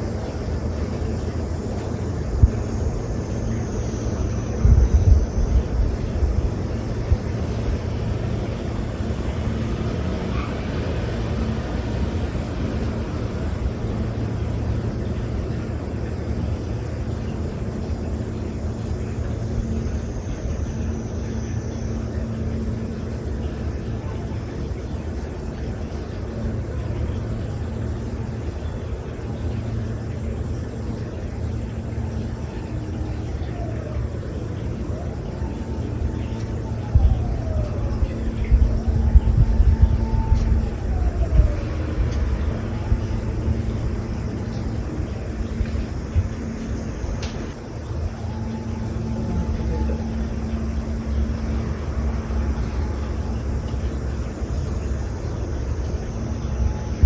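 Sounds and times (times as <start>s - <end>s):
faint hum: 0.0s - 57.0s
vehicle engine rumble: 0.0s - 57.0s.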